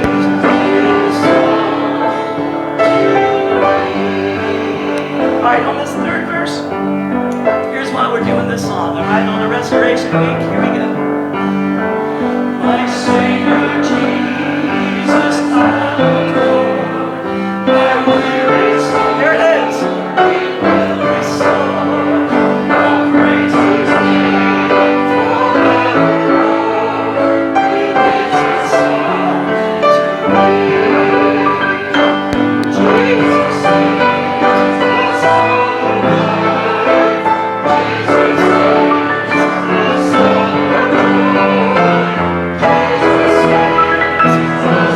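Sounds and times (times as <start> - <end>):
piano playing a hymn: 0.0 - 44.9
voices singing: 0.0 - 44.9.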